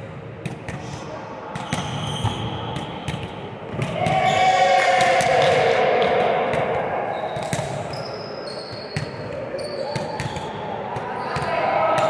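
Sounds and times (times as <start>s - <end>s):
volleyballs hit and bouncing: 0.0s - 12.0s.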